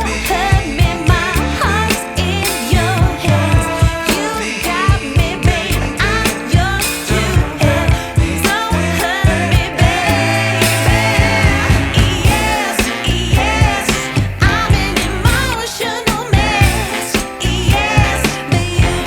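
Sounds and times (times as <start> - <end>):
bass: 0.0 - 19.0
drum beat: 0.0 - 19.0
pop song with singing: 0.0 - 19.0.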